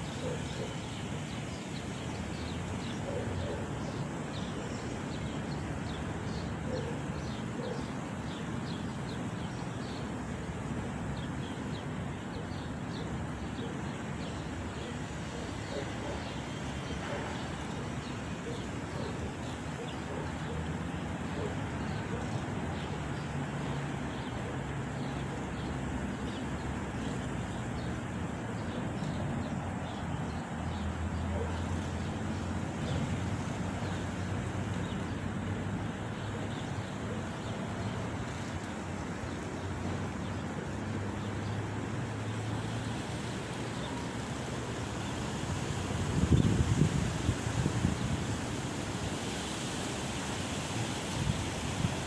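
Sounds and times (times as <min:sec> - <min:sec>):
breeze through palm fronds: 0:00.0 - 0:52.0.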